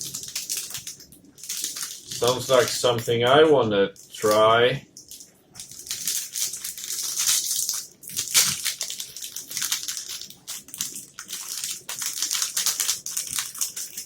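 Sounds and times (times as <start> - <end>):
plastic wrapper crinkling: 0.0 - 14.0.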